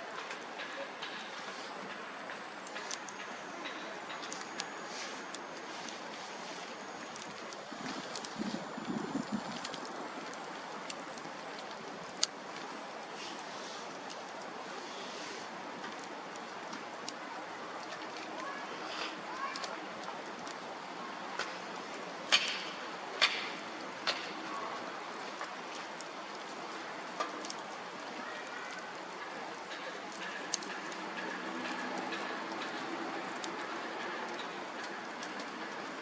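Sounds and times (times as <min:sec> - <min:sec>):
fire crackles: 0:00.0 - 0:36.0.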